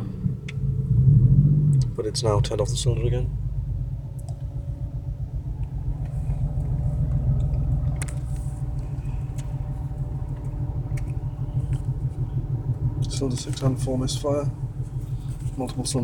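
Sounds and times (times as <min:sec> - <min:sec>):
car engine idling roughly: 0:01.9 - 0:16.0.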